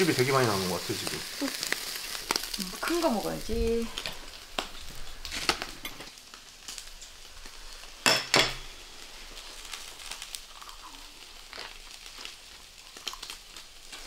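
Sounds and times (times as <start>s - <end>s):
food sizzling on grill: 0.0s - 14.0s.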